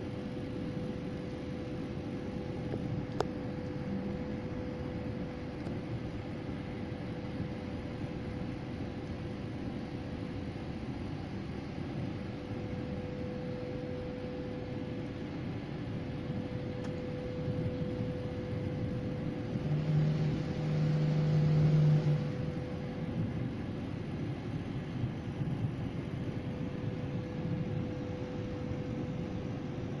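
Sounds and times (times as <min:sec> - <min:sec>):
faint hum: 0:00.0 - 0:30.0
low outdoor rumble: 0:00.0 - 0:30.0.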